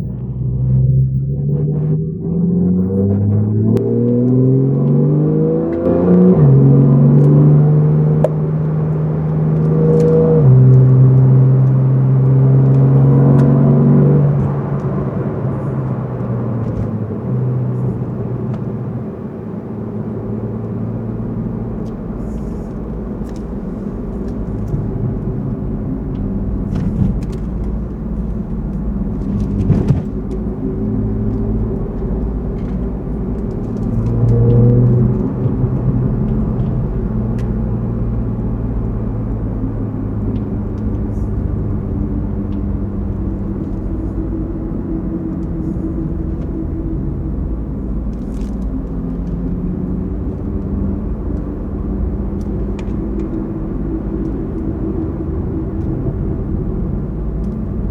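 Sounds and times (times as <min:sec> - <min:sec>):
car engine running: 0:00.0 - 0:57.9
tyre and road rumble: 0:00.0 - 0:57.9.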